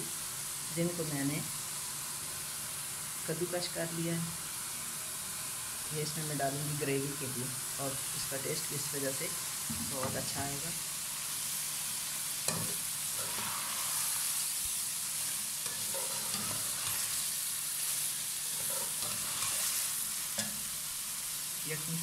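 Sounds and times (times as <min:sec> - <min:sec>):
chicken sizzling in a metal pan: 0:00.0 - 0:22.0.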